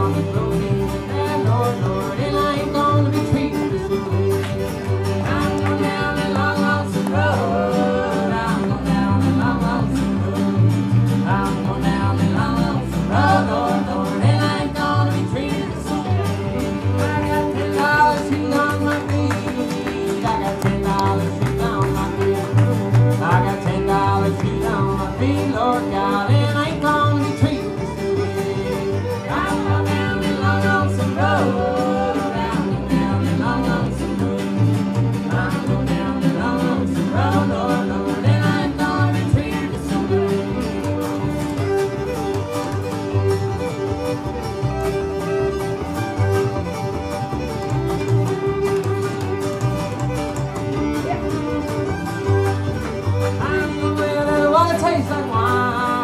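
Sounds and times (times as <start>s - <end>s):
person singing: 0.0s - 42.0s, 50.8s - 56.0s
fiddle: 0.0s - 56.0s
guitar: 0.0s - 56.0s
plucked double bass: 0.0s - 56.0s.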